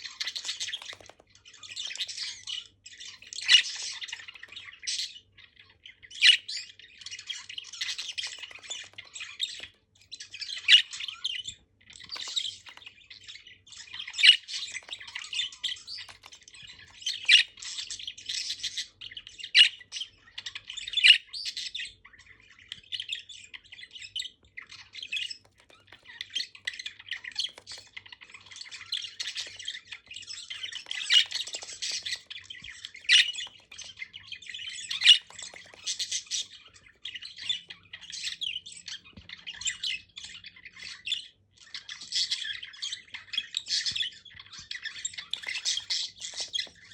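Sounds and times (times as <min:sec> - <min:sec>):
budgerigars chattering and chirping: 0:00.0 - 0:46.9.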